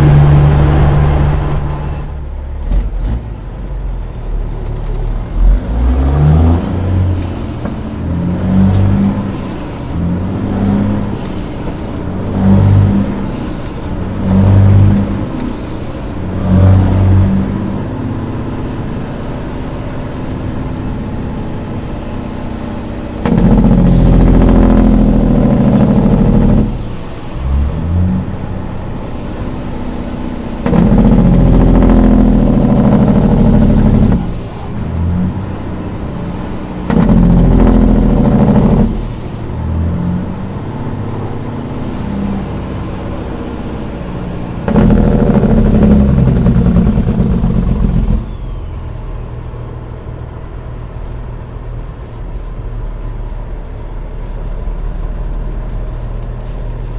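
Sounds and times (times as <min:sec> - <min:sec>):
truck diesel engine pulling hard: 0:00.0 - 0:56.9.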